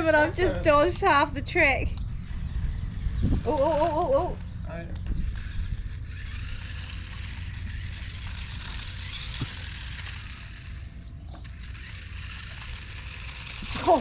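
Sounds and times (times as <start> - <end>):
toy car motors whirring: 2.2 - 14.0.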